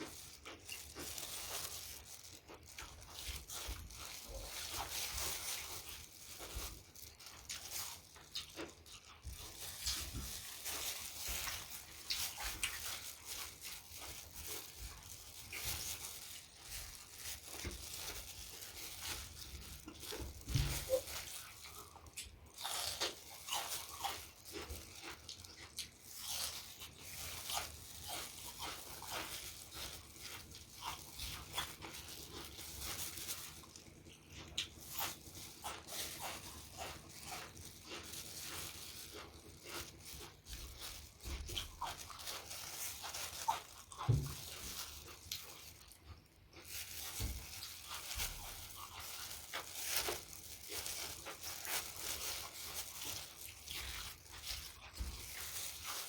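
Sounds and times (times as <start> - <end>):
wet mouth chewing and crunching: 0.0 - 56.0.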